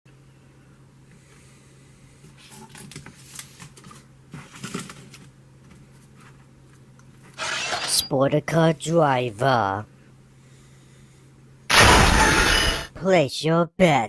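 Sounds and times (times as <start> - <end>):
faint steady hum: 0.1 - 14.0.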